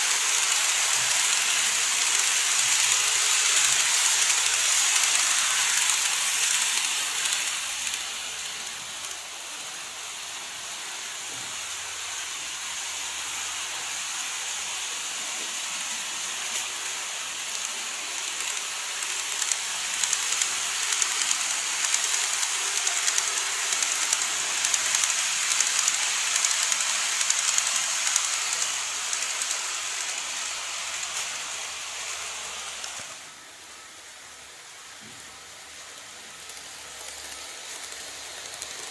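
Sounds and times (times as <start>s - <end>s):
model train wheels hissing: 0.0s - 38.9s.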